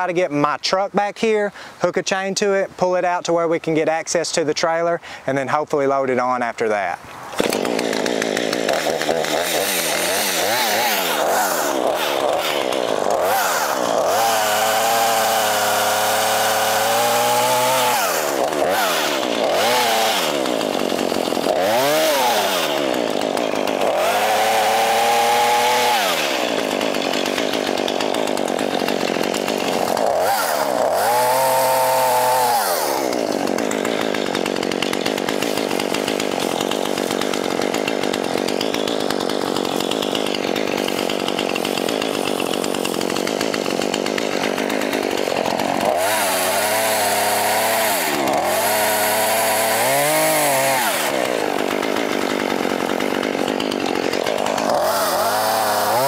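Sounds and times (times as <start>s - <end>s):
chainsaw engine revving: 7.3s - 56.0s.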